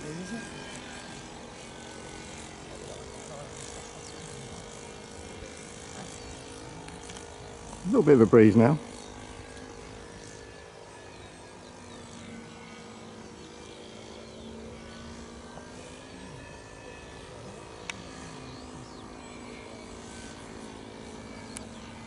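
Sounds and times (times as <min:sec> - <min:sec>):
model aircraft engine droning: 0:00.0 - 0:22.0.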